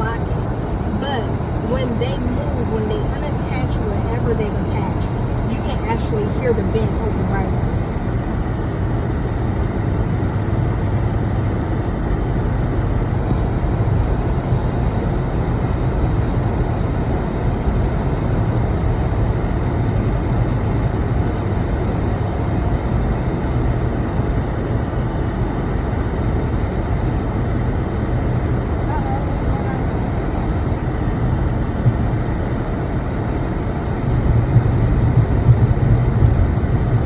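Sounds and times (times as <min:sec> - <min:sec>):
car interior engine and road noise: 0:00.0 - 0:37.0.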